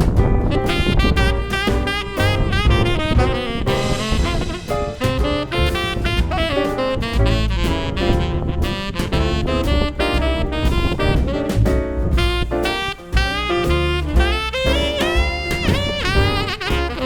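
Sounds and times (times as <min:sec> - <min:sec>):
bass: 0:00.0 - 0:17.0
drums: 0:00.0 - 0:17.0
saxophone: 0:00.5 - 0:17.0.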